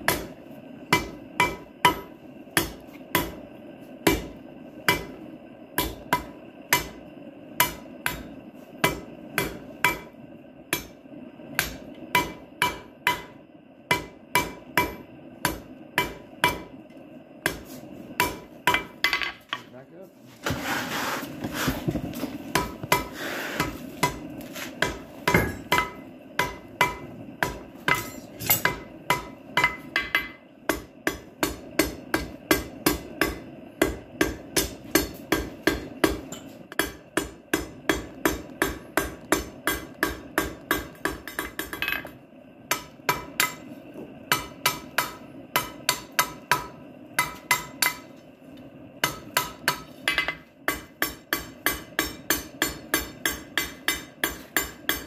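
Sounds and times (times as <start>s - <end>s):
hammer forging steel on anvil: 0.0s - 19.6s, 20.5s - 48.2s, 49.0s - 55.0s.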